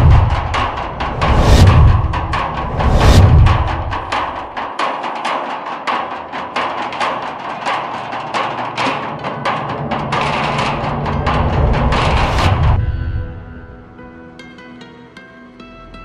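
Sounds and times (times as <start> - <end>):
sticks drumming on metal barrels: 0.0 - 13.4.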